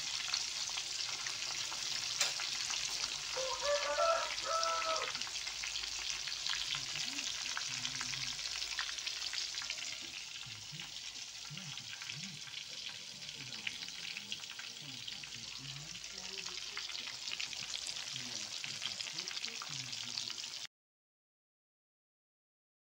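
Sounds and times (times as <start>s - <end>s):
hot oil sizzling and crackling: 0.0s - 20.7s.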